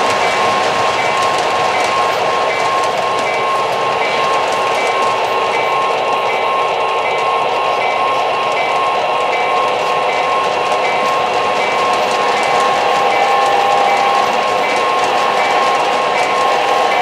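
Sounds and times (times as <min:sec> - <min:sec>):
model train cars rolling on track: 0:00.0 - 0:17.0.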